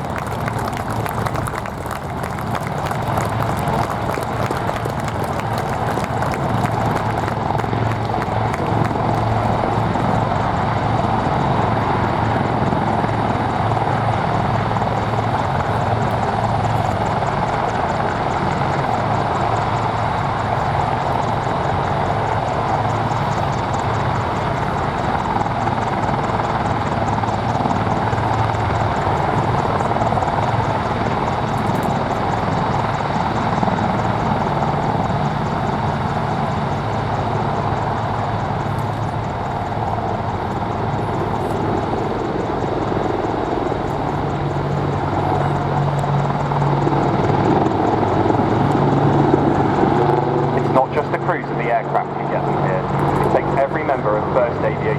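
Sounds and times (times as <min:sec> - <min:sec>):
helicopters flying: 0:00.0 - 0:54.9.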